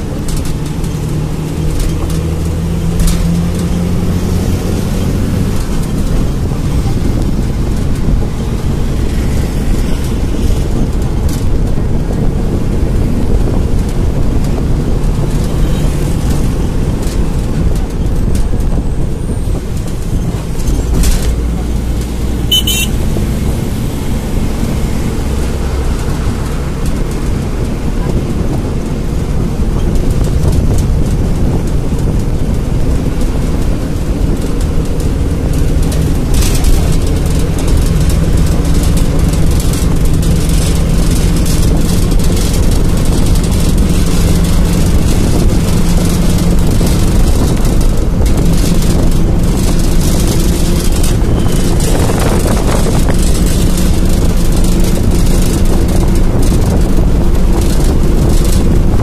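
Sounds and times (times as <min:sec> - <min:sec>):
road and wind noise: 0:00.0 - 0:59.0
vehicle engine hum inside: 0:00.0 - 0:59.0.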